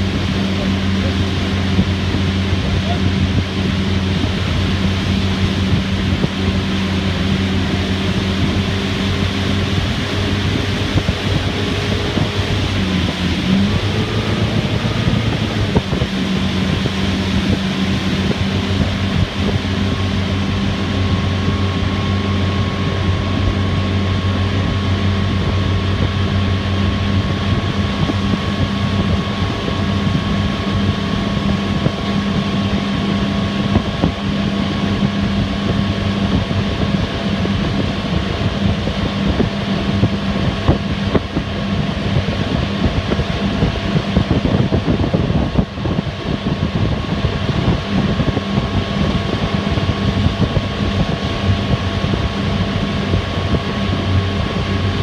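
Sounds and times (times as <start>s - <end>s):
motorboat engine running: 0.0s - 55.0s
wind on microphone: 0.0s - 55.0s.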